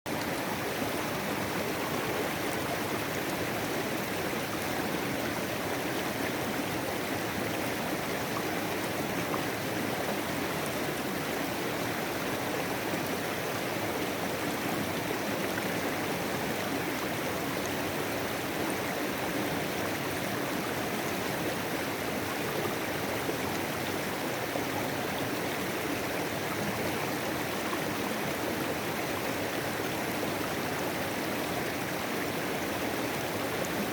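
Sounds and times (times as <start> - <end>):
mountain creek flowing: 0.1 - 33.9.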